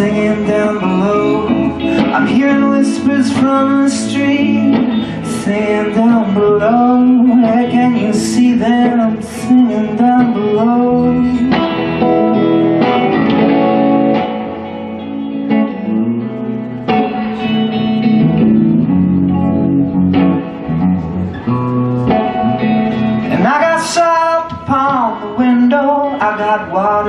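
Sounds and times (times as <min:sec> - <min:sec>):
low bass line: 0:00.0 - 0:25.9
guitar chords: 0:00.0 - 0:27.0.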